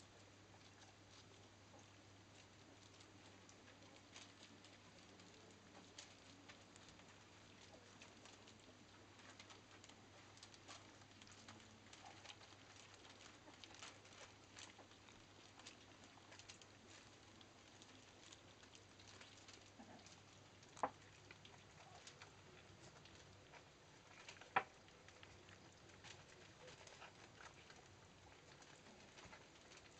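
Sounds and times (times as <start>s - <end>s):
paws pattering on newspaper: 0.0s - 29.9s
puppies lapping wet food: 0.1s - 29.9s.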